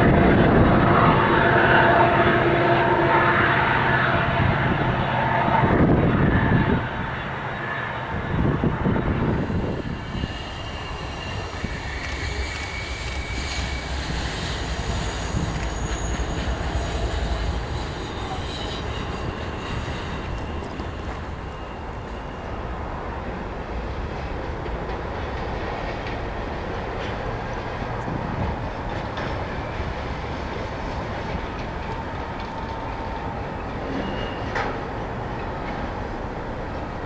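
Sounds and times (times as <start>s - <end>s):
locomotive engine drone: 0.0s - 37.0s
train rumbling on rails: 0.0s - 37.0s.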